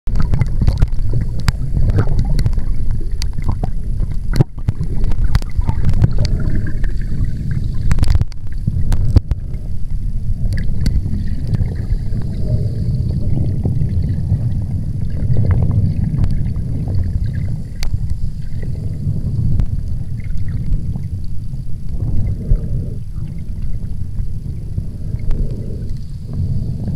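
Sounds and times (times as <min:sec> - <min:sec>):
underwater rushing rumble: 0:00.1 - 0:26.9.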